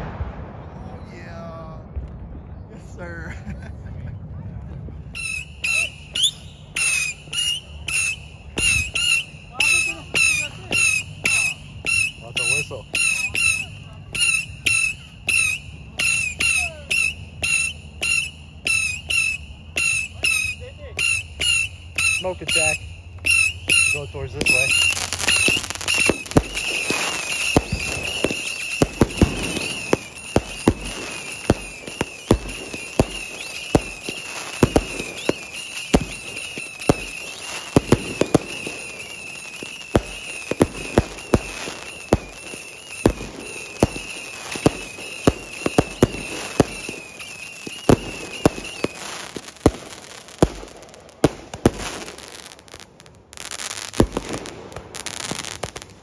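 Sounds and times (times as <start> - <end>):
fireworks bangs: 0.0 - 56.0.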